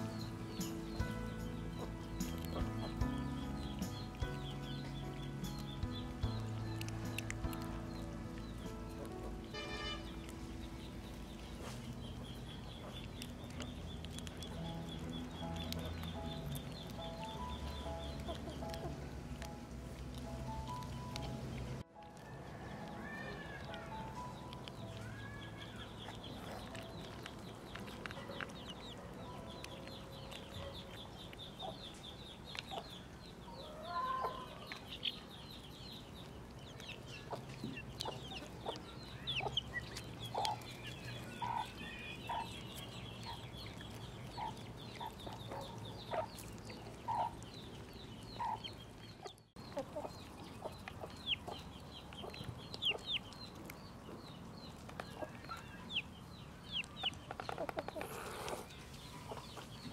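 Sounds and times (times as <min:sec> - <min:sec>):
chickens clucking: 0:00.0 - 0:59.9
high chick chirps: 0:00.0 - 0:59.9.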